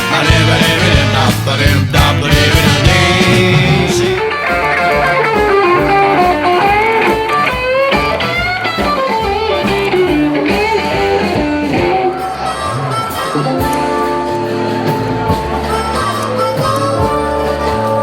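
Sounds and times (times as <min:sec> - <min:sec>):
instrumental guitar music with beat: 0:00.0 - 0:18.0.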